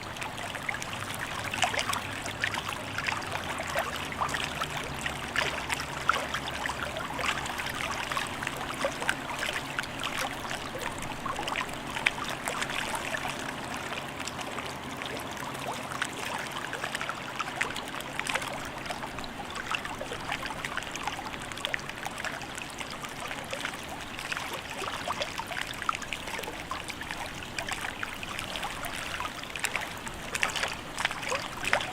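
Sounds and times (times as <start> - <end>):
water lapping and splashing: 0.0 - 31.9.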